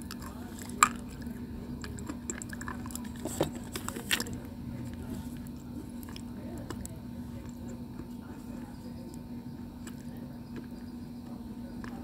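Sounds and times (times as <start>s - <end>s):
crunching of stone being chewed: 0.0s - 12.0s.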